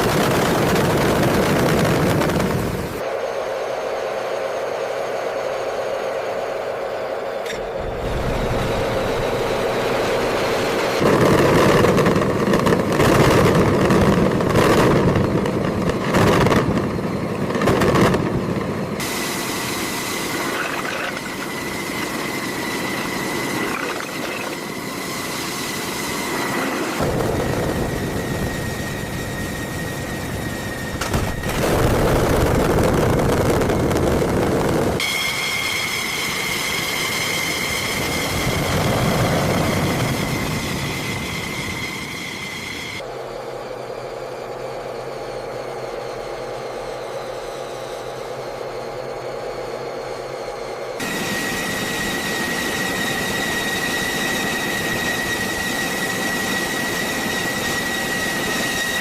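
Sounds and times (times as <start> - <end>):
high-pitched whine: 0.0 - 59.0
loud mechanical noises: 0.0 - 59.0
multi-toned whine: 0.0 - 59.0.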